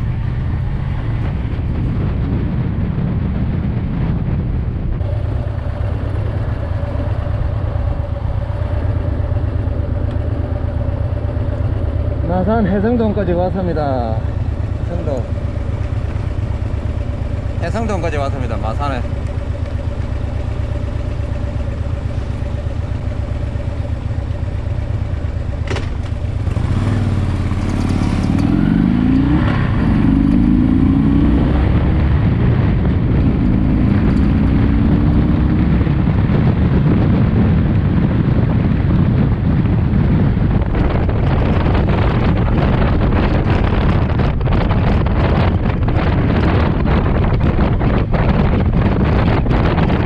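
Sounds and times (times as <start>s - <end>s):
motorcycle engine: 0.0s - 50.0s
wind noise on microphone: 0.0s - 50.0s.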